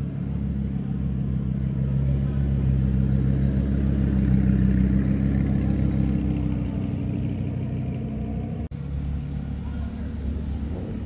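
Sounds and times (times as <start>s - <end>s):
car engine rumbling past: 0.0s - 11.0s.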